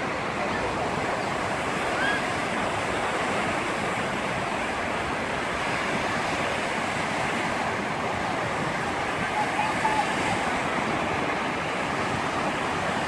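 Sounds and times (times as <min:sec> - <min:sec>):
waves washing on sandy beach: 0:00.0 - 0:13.0.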